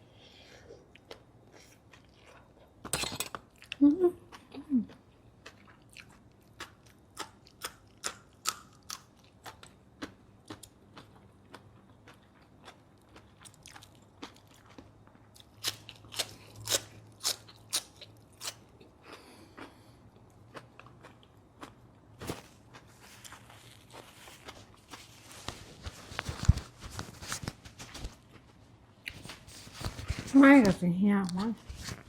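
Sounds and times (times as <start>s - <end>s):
close chewing and crunching: 0.8s - 27.2s.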